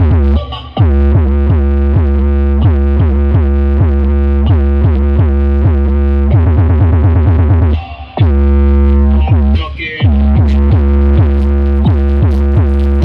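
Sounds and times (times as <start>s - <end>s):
bass-heavy electronic music: 0.0s - 13.0s.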